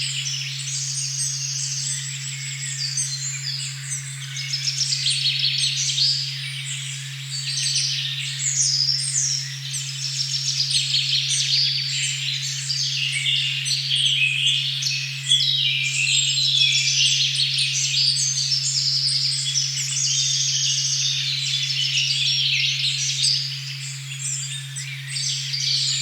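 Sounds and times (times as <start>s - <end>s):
low sine tone: 0.0s - 26.0s
songbirds chirping and trilling: 0.0s - 26.0s.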